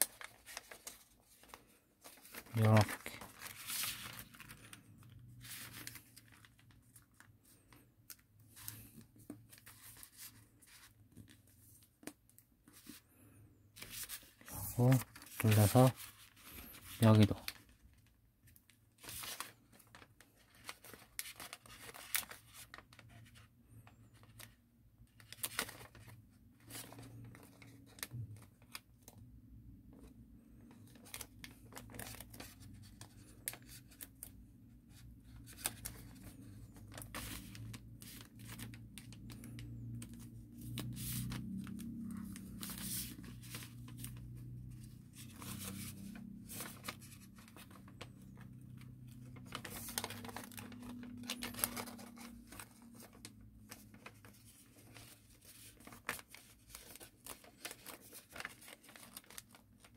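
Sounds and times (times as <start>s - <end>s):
paper being folded and creased: 0.0s - 59.9s.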